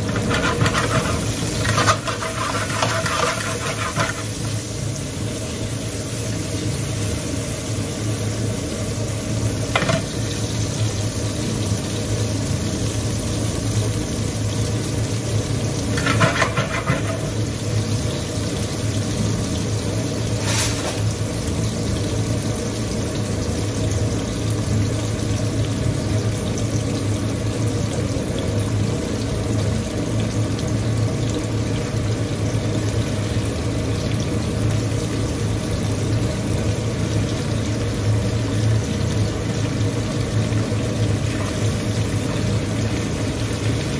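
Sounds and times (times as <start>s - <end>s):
vegetables sizzling in a pan: 0.0s - 43.9s.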